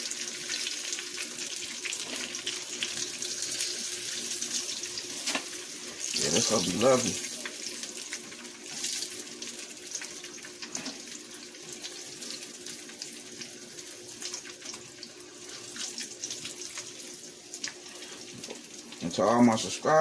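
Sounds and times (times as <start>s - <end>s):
liver sizzling in a pan: 0.0s - 19.1s.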